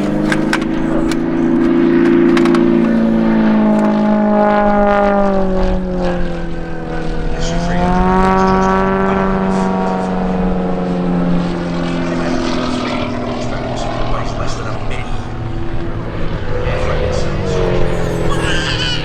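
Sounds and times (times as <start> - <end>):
propeller aircraft engine: 0.0 - 19.0.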